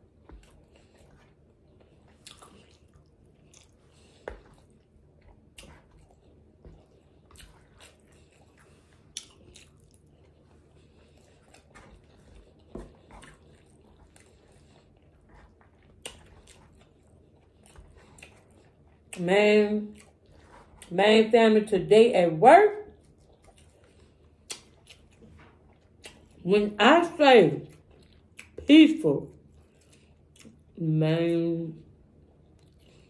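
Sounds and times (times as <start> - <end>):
wet chewing: 0.0 - 19.2, 19.8 - 20.9, 22.9 - 26.5, 27.6 - 28.7, 29.3 - 30.8, 32.2 - 33.0.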